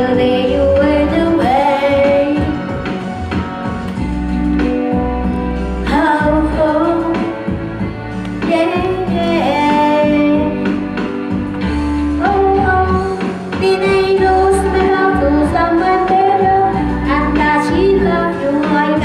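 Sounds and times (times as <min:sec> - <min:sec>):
woman singing into a microphone: 0:00.0 - 0:03.0, 0:05.8 - 0:19.0
backing music: 0:00.0 - 0:19.0.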